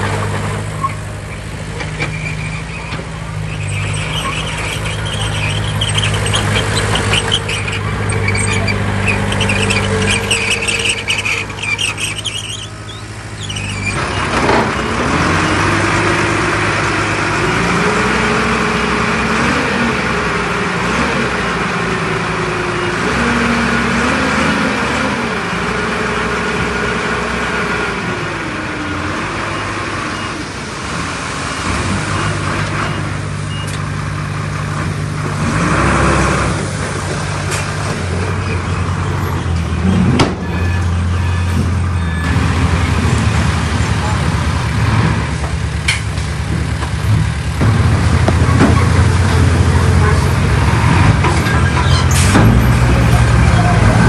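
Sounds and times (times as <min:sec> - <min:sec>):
heavy diesel engine working: 0:00.0 - 0:54.0.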